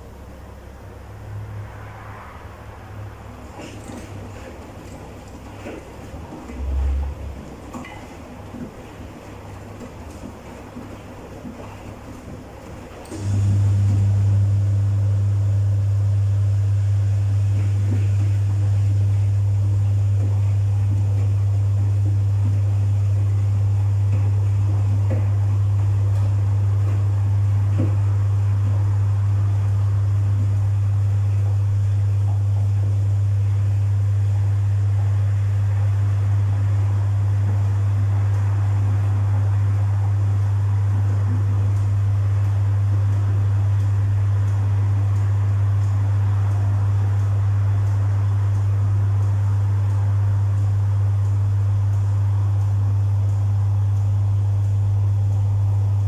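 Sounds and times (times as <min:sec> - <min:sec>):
washing machine running: 0:00.0 - 0:56.0.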